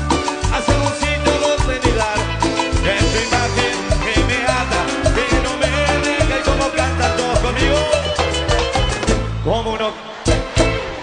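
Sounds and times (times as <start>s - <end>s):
upbeat music with bass line: 0.0s - 11.0s.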